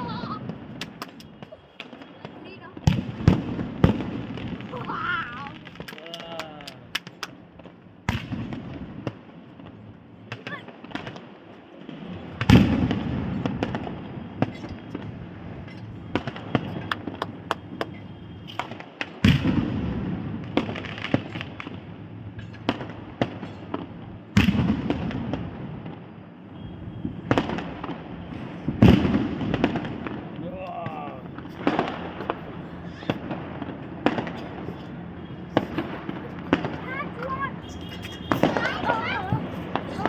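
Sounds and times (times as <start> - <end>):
loud firework bangs: 0.0 - 40.0
small firework pops and crackles: 0.0 - 40.0.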